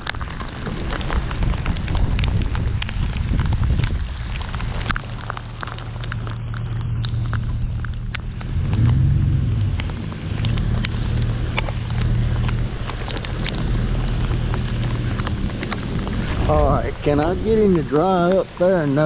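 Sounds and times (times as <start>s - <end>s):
electric scooter hum: 0.0s - 17.9s
raindrops tapping on plastic housing: 0.0s - 18.7s
rain falling: 0.0s - 19.0s.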